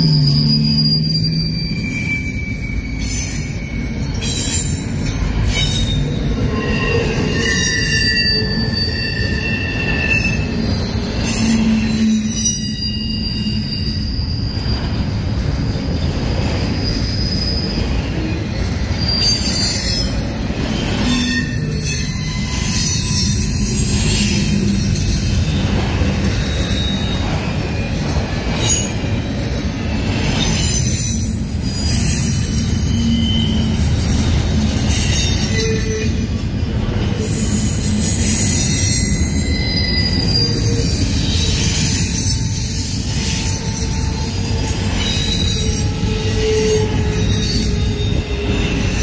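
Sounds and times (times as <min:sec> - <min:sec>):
freight train rumbling: 0:00.0 - 0:49.0
train wheel squeal: 0:00.0 - 0:49.0.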